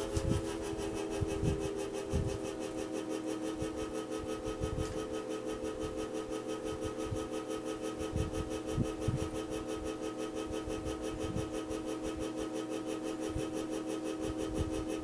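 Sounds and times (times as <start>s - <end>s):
fan motor humming and pulsing: 0.0s - 15.0s.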